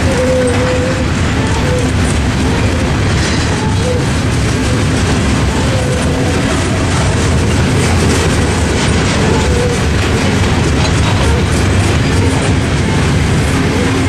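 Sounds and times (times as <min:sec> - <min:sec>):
steel wheels running on rails: 0:00.0 - 0:14.0.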